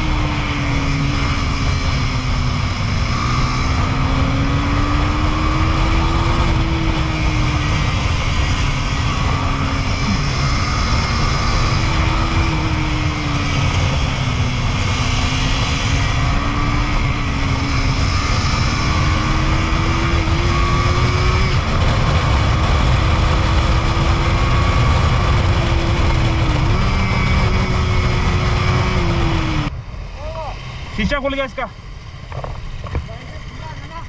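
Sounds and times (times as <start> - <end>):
wind rush over microphone: 0.0 - 34.0.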